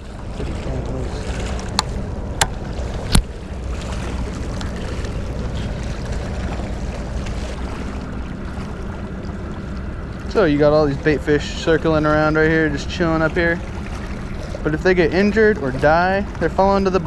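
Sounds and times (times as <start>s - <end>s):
low rumble of harbour and wind: 0.0s - 17.0s.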